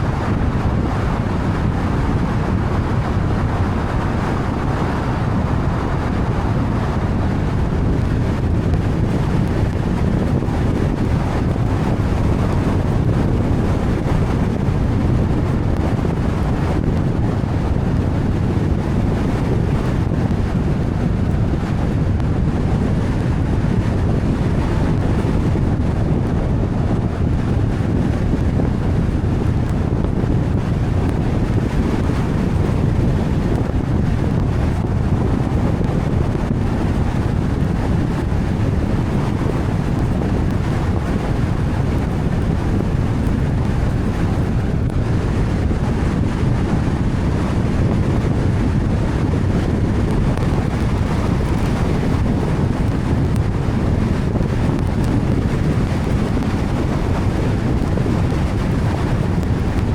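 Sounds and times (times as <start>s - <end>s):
tyres rumbling on wet road: 0.0s - 59.9s.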